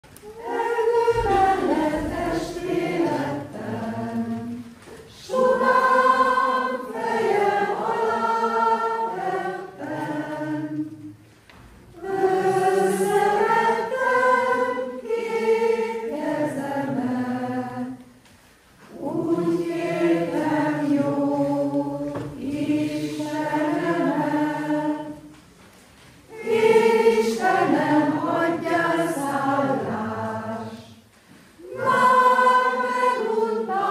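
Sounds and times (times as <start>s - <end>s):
women's choir singing: 0.0s - 18.2s, 18.8s - 25.6s, 26.2s - 33.9s.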